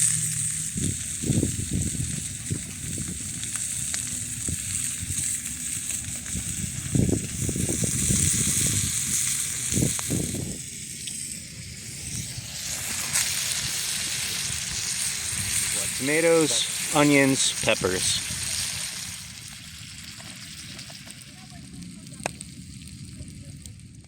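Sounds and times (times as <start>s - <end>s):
food sizzling over campfire: 0.0s - 24.0s
low rumbles: 0.0s - 24.0s.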